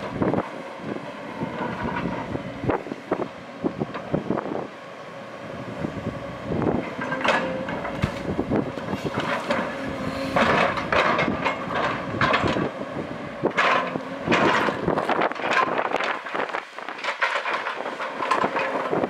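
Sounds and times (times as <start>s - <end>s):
excavator engine and hydraulics: 0.0s - 19.0s.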